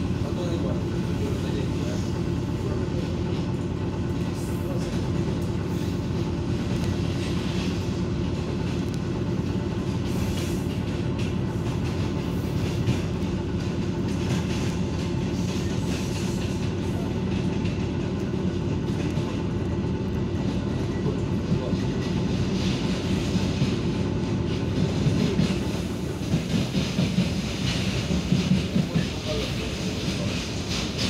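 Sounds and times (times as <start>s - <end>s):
freight train passing: 0.0s - 31.0s
train carriage rumble and rail clatter: 0.0s - 31.0s.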